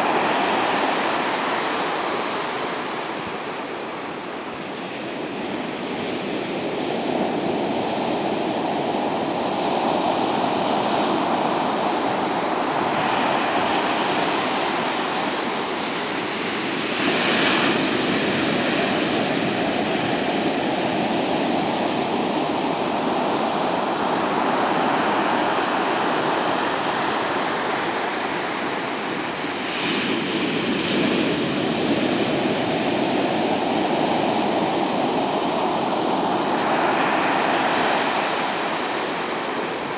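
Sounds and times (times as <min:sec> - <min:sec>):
surf breaking on a beach: 0:00.0 - 0:39.9
waves crashing: 0:00.0 - 0:39.9.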